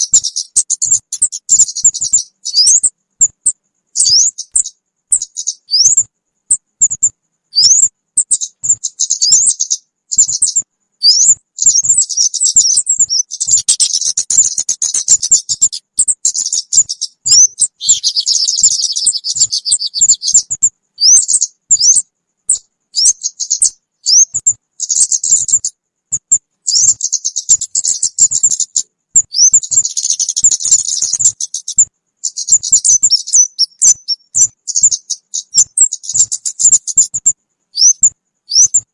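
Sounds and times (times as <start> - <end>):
bird chirps and whistles: 0.0 - 38.9
buzzy bird chattering: 0.0 - 38.9.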